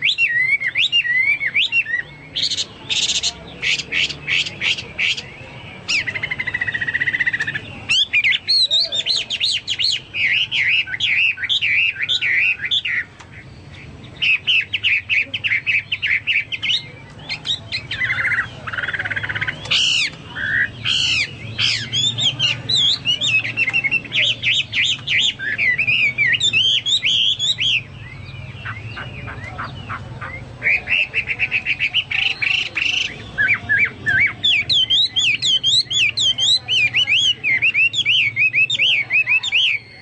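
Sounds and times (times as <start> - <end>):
bird singing whistled notes: 0.0 - 40.0.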